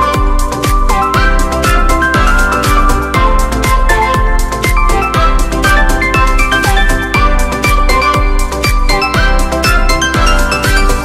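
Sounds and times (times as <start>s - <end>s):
bright synth melody: 0.0s - 11.0s
kick drum: 0.0s - 11.0s.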